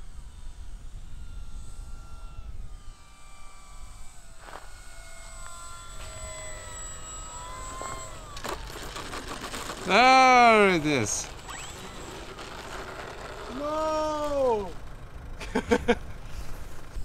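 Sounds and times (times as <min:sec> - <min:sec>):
model plane motor whining: 0:00.0 - 0:17.0.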